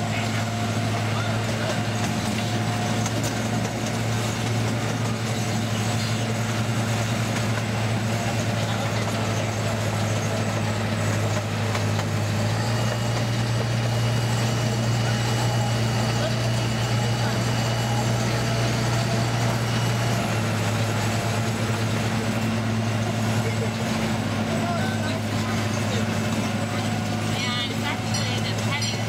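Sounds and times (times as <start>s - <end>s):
miniature train engine hum: 0.0s - 29.0s.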